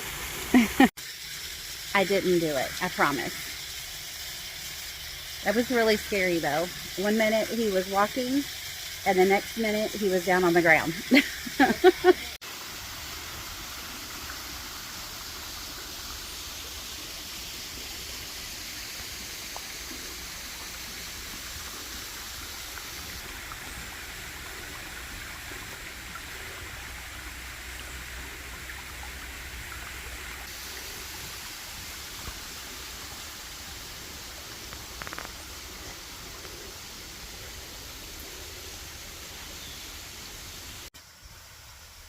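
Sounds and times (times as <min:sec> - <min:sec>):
waterfall and stream rushing: 0:00.0 - 0:00.9, 0:04.9 - 0:40.9.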